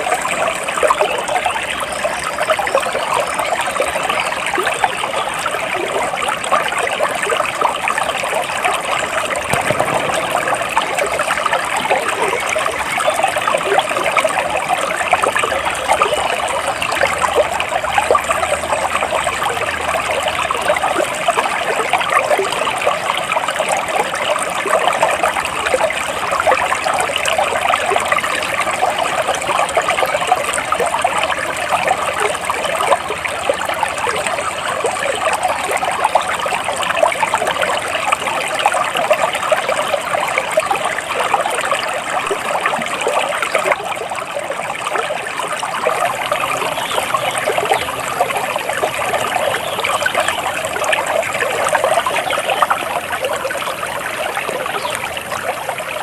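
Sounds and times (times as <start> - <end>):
water trickling and babbling: 0.0 - 56.0.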